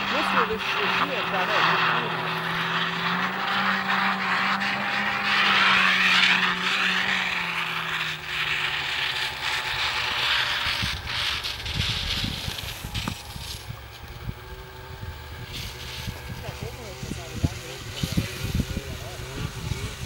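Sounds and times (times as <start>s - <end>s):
snowmobile engine droning: 0.0s - 20.0s.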